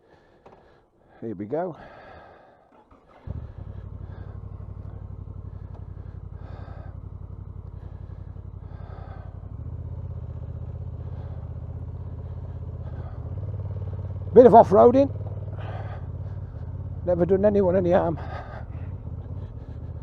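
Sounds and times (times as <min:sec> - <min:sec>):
motorcycle engine running: 0:02.0 - 0:20.0.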